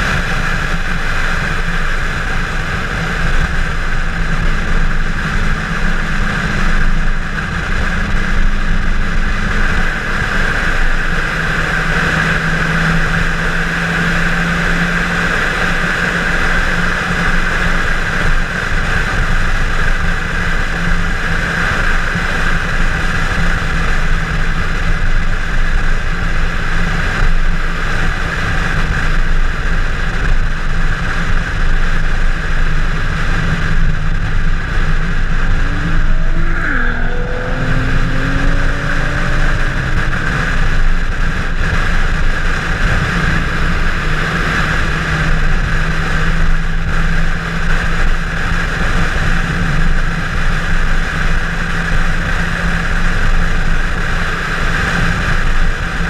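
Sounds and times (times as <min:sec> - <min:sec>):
car engine drone: 0:00.0 - 0:56.0
wind and road noise: 0:00.0 - 0:56.0.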